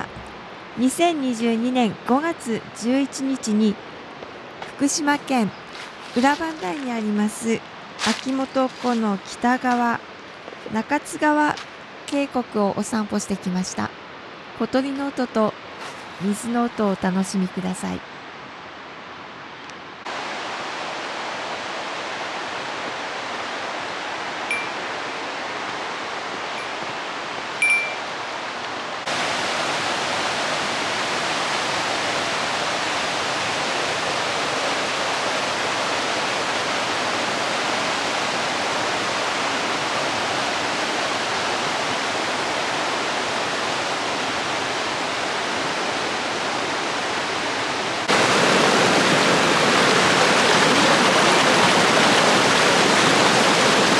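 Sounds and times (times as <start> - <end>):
stream rushing over rocks: 3.1 - 12.0, 14.0 - 17.0, 20.0 - 53.9.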